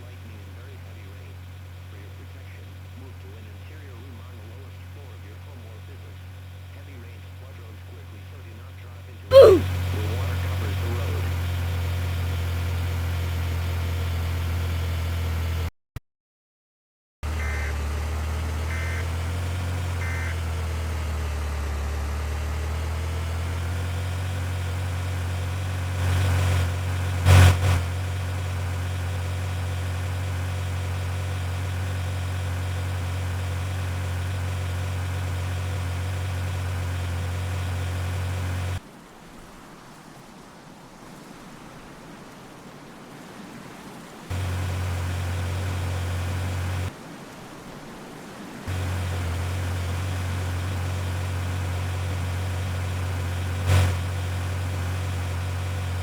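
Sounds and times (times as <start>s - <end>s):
vehicle engine and road noise: 0.0s - 15.7s, 17.2s - 39.0s, 41.5s - 56.0s.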